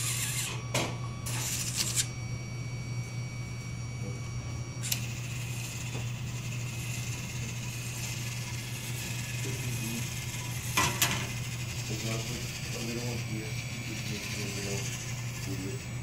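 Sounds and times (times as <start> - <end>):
conveyor motor hum and whir: 0.0 - 16.0.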